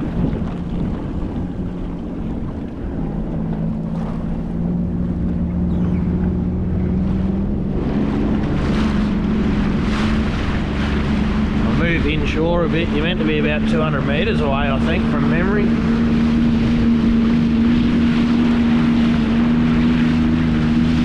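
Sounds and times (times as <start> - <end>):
jet ski engine hum: 0.0 - 21.0
wind rumbling on microphone: 0.0 - 21.0.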